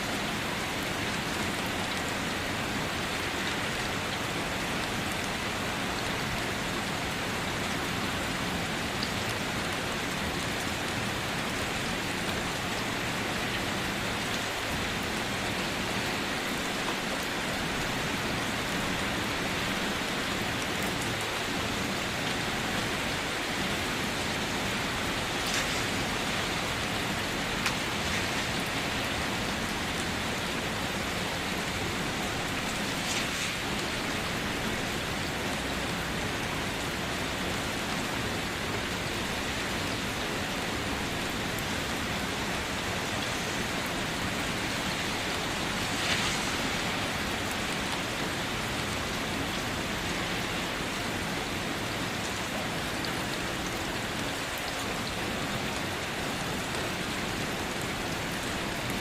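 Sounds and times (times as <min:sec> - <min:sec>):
rain pattering on car roof: 0:00.1 - 0:57.3.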